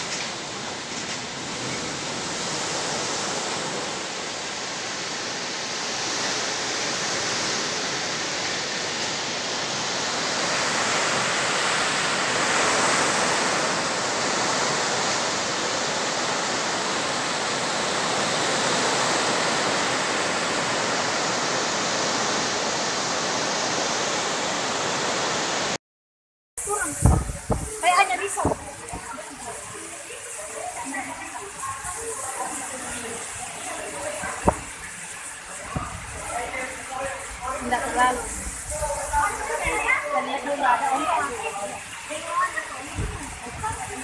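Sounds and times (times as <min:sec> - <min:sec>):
heavy rain in strong wind: 0:00.0 - 0:25.8, 0:26.6 - 0:44.0.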